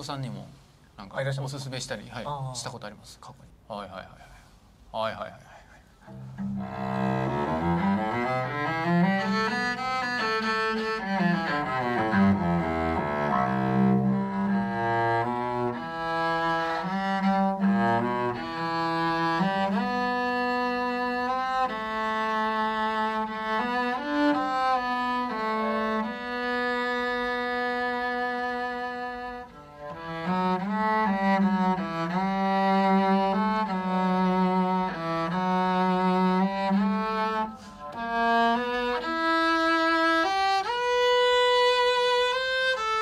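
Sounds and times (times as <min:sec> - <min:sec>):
solo cello bowed: 0:06.0 - 0:43.0.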